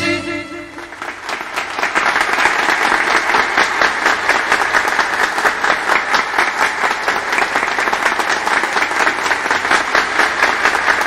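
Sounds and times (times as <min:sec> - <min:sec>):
crowd applauding: 0:00.7 - 0:11.0.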